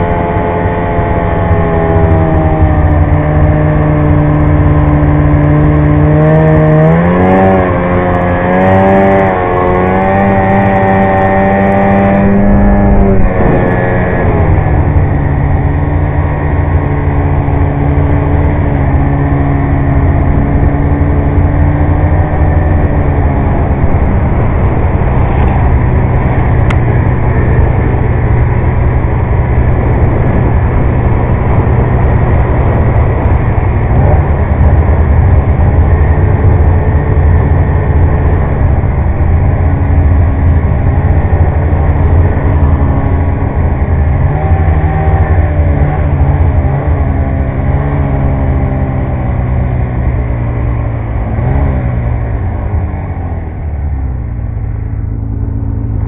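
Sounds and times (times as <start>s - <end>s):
snowmobile engine under throttle: 0.0s - 56.0s.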